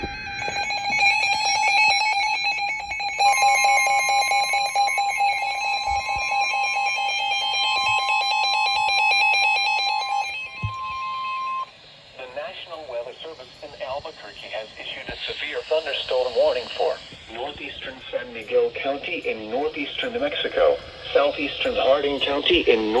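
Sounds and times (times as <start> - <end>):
higher alarm tone: 0.0 - 23.0
steady low alarm tone: 0.0 - 23.0.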